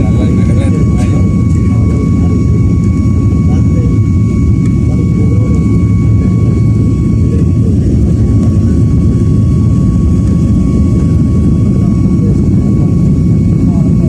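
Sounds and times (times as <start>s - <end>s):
jet engine cabin rumble: 0.0s - 14.0s
thin steady whine: 0.0s - 14.0s.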